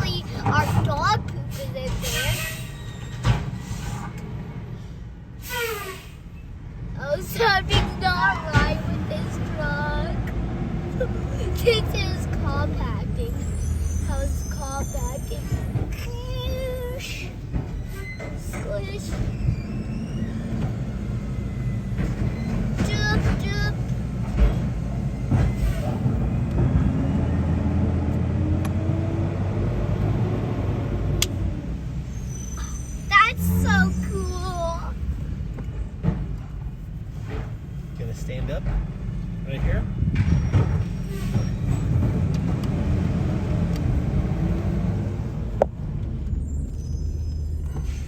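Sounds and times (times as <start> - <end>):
garbage truck engine rumbling: 0.0 - 48.0.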